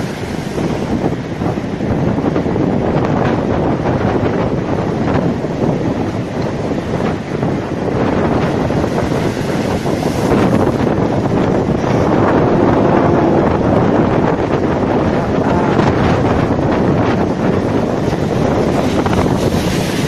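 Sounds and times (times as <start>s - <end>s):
sea waves washing ashore: 0.0s - 20.0s
wind buffeting microphone: 0.0s - 20.0s.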